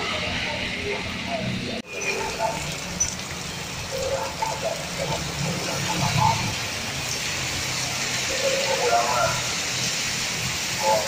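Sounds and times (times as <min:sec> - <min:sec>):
motorbikes passing on wet road: 0:00.0 - 0:11.0
heavy rain on road and puddles: 0:01.8 - 0:11.0.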